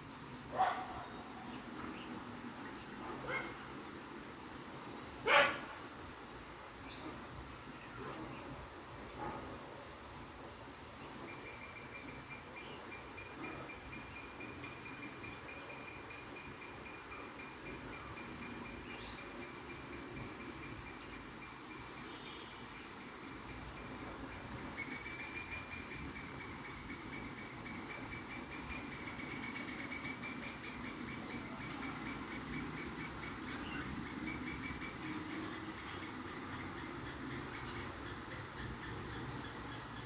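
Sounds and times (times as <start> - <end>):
high insect-like droning: 0.0 - 40.0.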